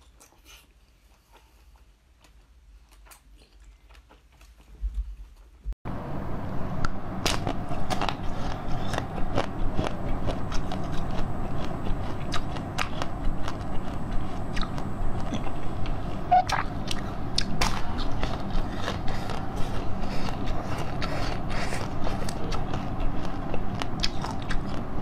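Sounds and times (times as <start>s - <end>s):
biting and chewing jelly: 0.0s - 5.5s, 7.2s - 25.0s.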